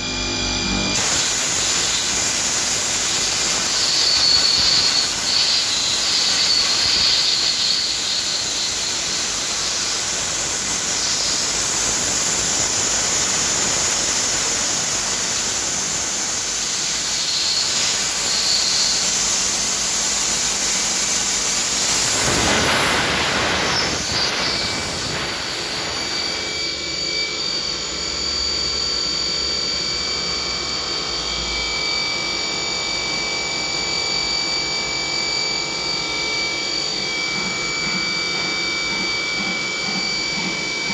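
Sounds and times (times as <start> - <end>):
high spindle whine: 0.0 - 40.9
milling machine cutting hiss: 0.8 - 29.0, 35.7 - 40.9.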